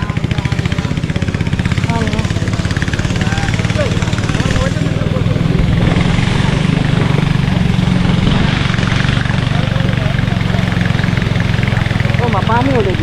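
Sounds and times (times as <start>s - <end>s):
boat engine running steadily: 0.0s - 13.0s
water rushing along hull: 0.0s - 13.0s.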